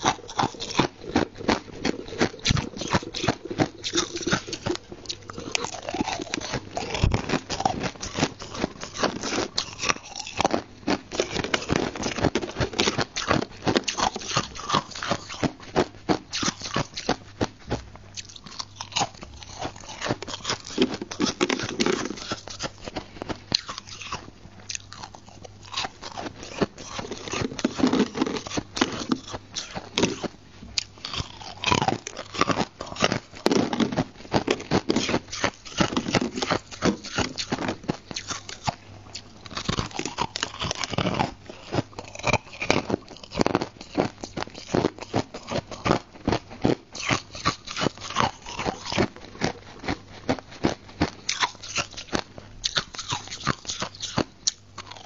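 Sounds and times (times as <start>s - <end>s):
ice crunching while chewed: 0.0s - 55.0s.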